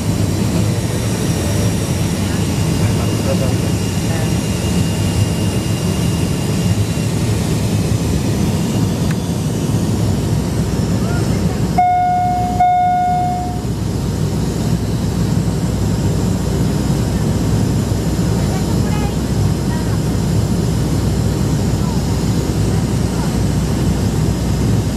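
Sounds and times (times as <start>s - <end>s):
airliner cabin rumble: 0.0s - 24.9s.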